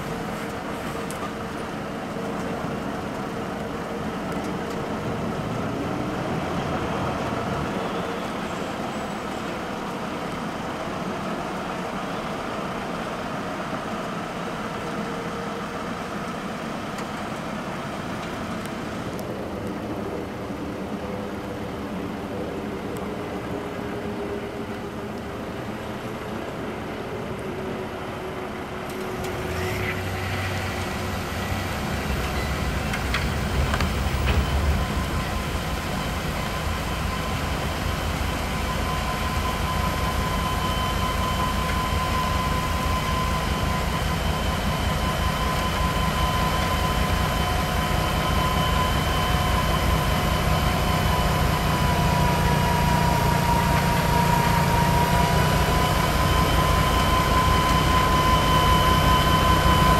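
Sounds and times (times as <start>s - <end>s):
high whine of snow blower: 0.0s - 59.9s
tractor engine rumble: 0.0s - 59.9s.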